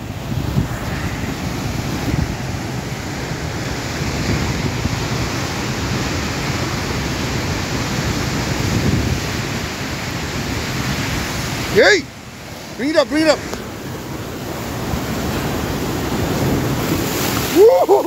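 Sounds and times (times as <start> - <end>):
wind buffeting microphone: 0.0 - 11.8, 12.4 - 18.0
surf breaking over rocks: 0.0 - 18.0.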